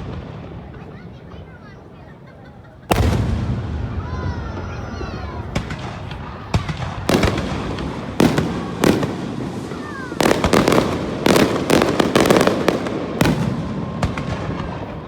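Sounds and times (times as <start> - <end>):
fireworks bangs with echo: 0.0 - 2.2, 2.8 - 15.0.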